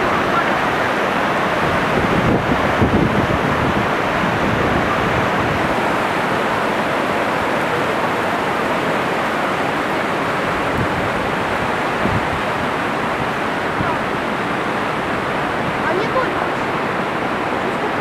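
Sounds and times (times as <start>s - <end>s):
river rapid rushing: 0.0s - 18.0s.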